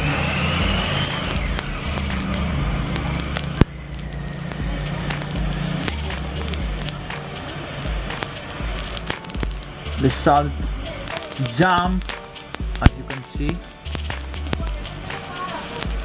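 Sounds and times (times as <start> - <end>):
gas torch flame hissing: 0.0 - 16.0
loud snap: 0.0 - 16.0
salt crackling and popping: 0.0 - 16.0.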